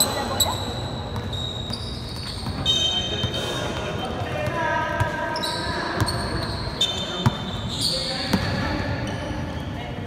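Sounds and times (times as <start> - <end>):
sneakers squeaking on floor: 0.0 - 10.0
voices in a hall: 0.0 - 10.0.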